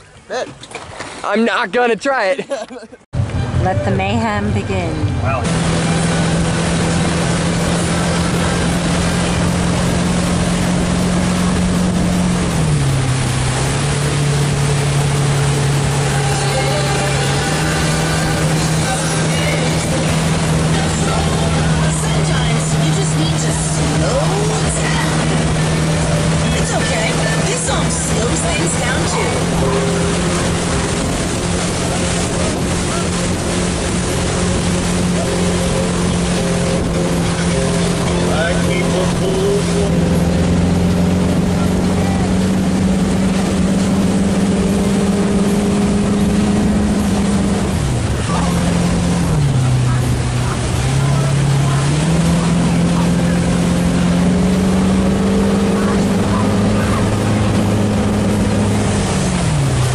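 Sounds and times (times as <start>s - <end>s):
water rushing and spraying: 0.0s - 2.4s, 3.2s - 59.9s
motorboat engine running: 3.1s - 59.9s
wind buffeting microphone: 3.2s - 59.9s.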